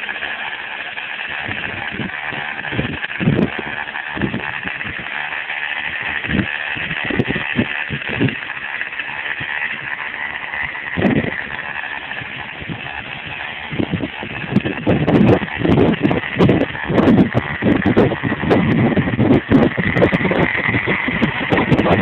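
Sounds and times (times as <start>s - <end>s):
low rumbles: 0.0s - 22.0s
two-stroke engine buzzing: 0.0s - 22.0s.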